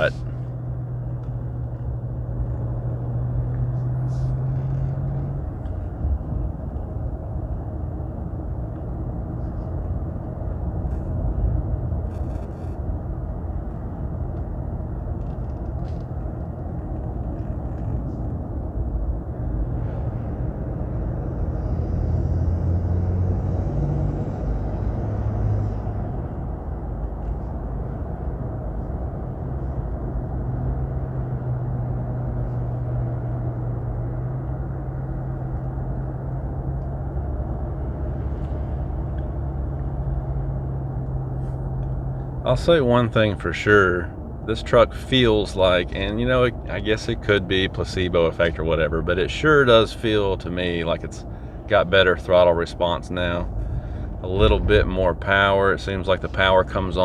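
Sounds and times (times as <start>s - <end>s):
engine and road rumble: 0.0s - 57.0s.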